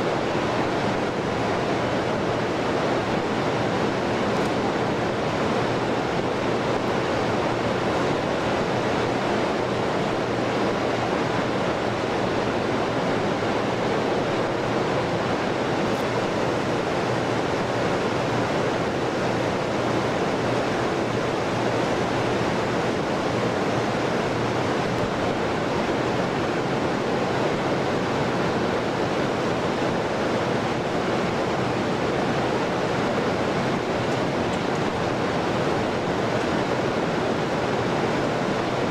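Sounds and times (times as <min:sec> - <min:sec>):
ventilation roar: 0:00.0 - 0:38.9.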